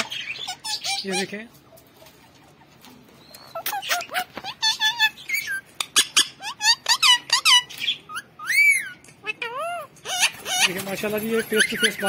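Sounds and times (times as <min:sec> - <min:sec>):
parrot chattering: 0:00.0 - 0:01.4, 0:03.3 - 0:12.0.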